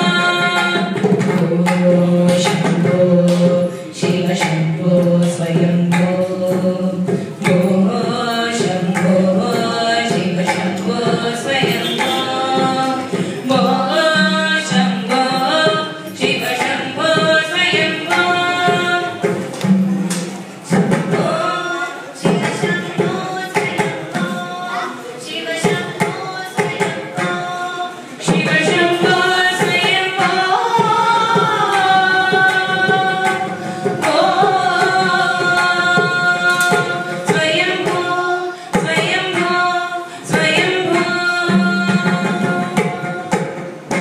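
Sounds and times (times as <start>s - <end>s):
women singing: 0.0s - 19.6s, 20.6s - 44.0s
hand drum strokes: 0.0s - 44.0s.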